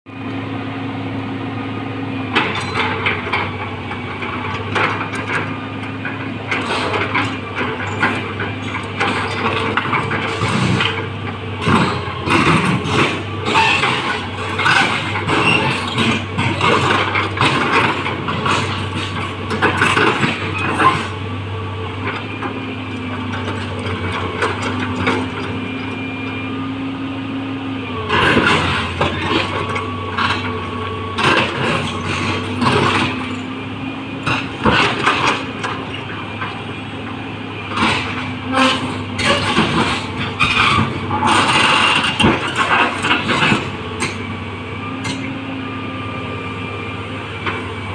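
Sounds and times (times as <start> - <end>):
excavator diesel engine running: 0.1 - 47.9
hydraulic whine: 6.5 - 47.9.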